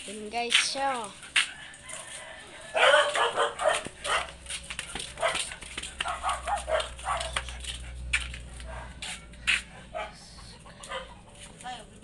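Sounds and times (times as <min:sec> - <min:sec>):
dog barking and yipping: 0:01.2 - 0:11.5.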